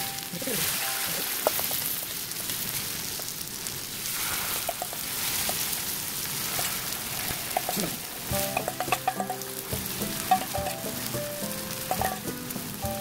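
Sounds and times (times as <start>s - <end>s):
sweet potato sizzling in a pan: 0.0s - 13.0s.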